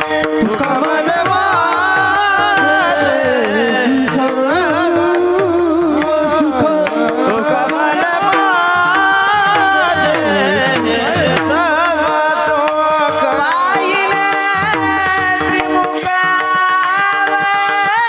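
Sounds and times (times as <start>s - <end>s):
hand drum percussion: 0.0s - 18.0s
man singing devotional song: 0.0s - 18.0s.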